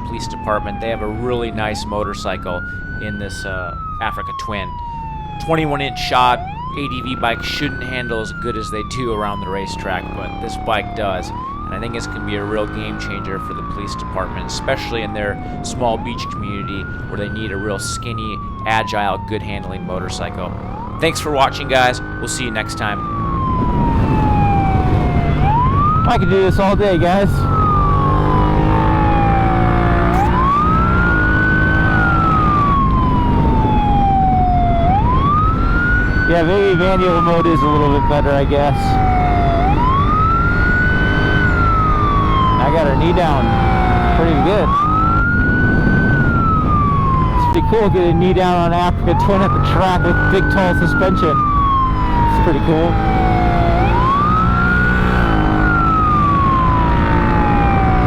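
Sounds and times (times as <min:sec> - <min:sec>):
police siren wailing: 0:00.0 - 0:58.0.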